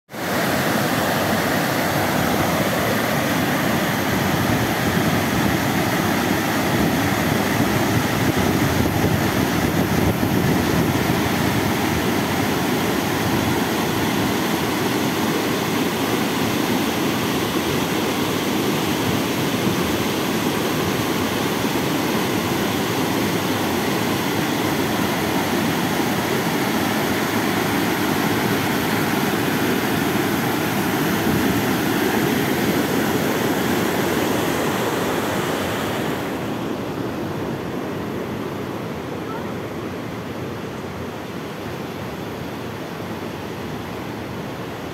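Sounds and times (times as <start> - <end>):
river rushing over boulders: 0.1 - 44.9.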